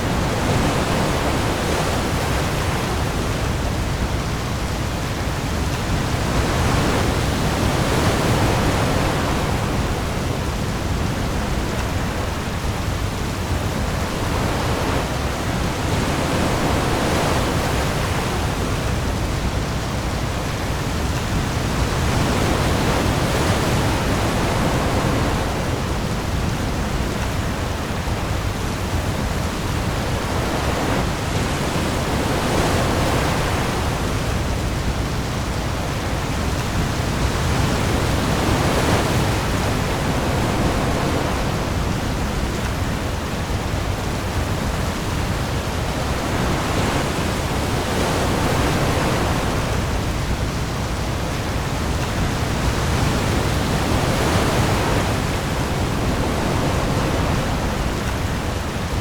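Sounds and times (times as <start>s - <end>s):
heavy rain on sea: 0.0s - 59.0s
waves swelling: 0.0s - 59.0s.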